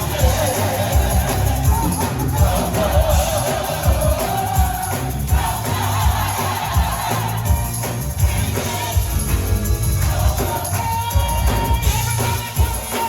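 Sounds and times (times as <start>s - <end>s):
bass: 0.0s - 13.0s
choir singing gospel: 0.0s - 13.0s
drums: 0.0s - 13.0s
tambourine: 0.0s - 13.0s.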